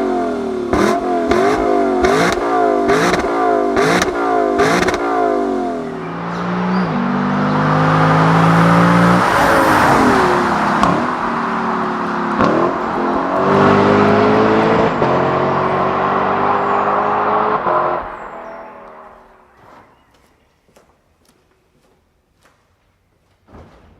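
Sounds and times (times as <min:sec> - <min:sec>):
car exhaust under load: 0:00.0 - 0:20.0.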